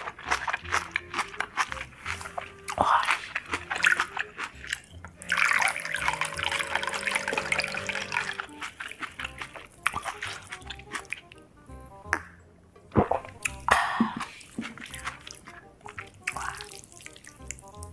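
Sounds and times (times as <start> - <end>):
wet eating sounds: 0.0 - 12.3, 12.9 - 17.9
quiet background music: 0.0 - 17.9.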